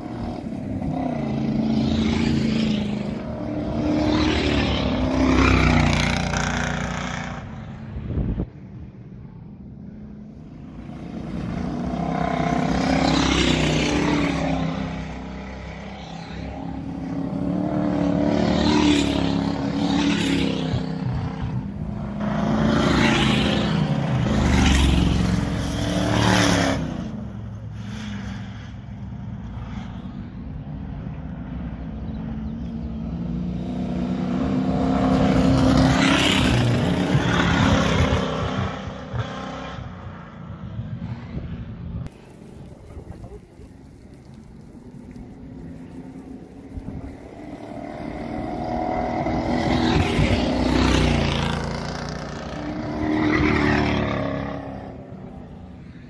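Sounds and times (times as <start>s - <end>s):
race cars passing at full throttle: 0.0s - 56.0s.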